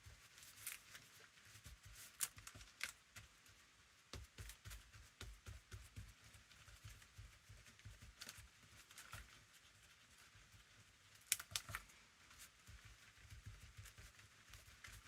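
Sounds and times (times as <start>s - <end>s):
brush strokes dabbing: 0.0s - 15.0s.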